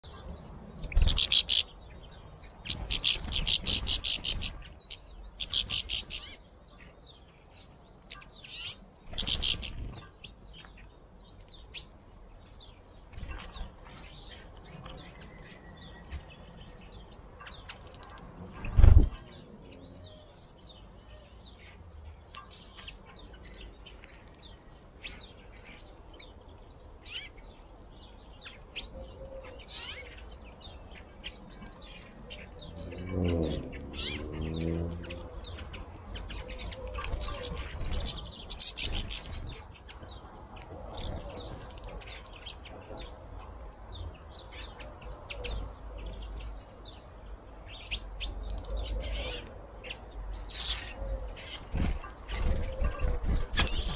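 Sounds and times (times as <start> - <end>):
songbirds trilling and chirping: 0.0 - 53.9.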